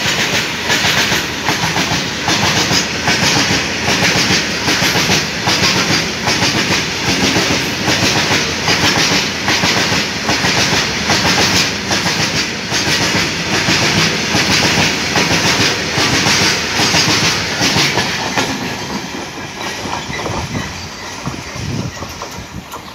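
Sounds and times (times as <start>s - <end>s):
train wheels clattering over rails: 0.0s - 22.9s.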